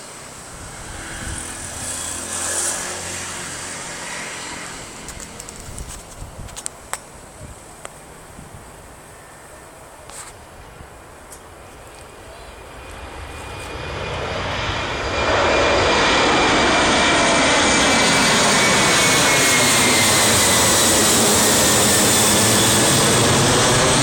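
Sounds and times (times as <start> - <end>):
jet engines taking off: 0.0 - 10.0, 10.8 - 24.0.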